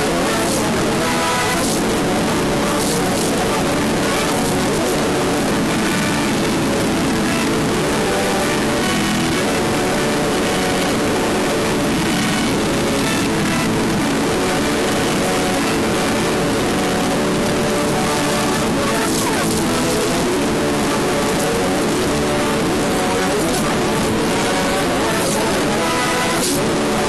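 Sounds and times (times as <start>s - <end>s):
radio static: 0.0s - 27.0s.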